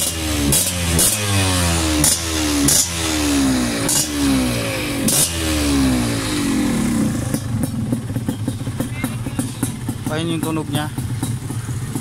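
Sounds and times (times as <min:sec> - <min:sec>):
dirt bike engine idling: 0:00.0 - 0:12.0
dirt bike engine revving: 0:00.0 - 0:12.0.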